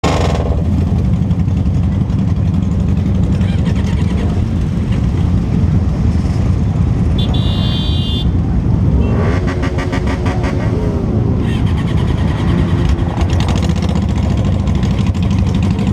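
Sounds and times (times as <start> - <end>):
motorcycle engine rumble: 0.0 - 15.9.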